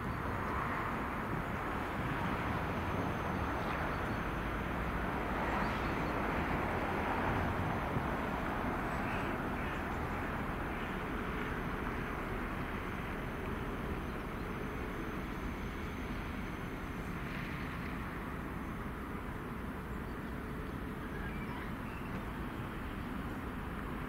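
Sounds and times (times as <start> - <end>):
diesel locomotive engine running: 0.0 - 24.0.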